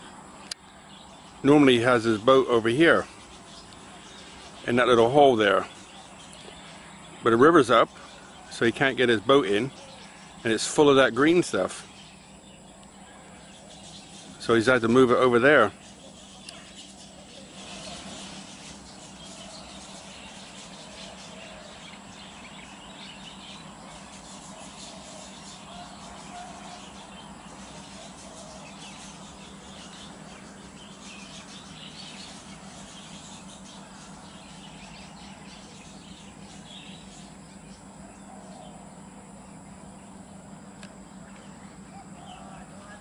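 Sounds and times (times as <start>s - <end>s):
insect drone: 0.0s - 43.0s
small birds chirping: 0.0s - 43.0s.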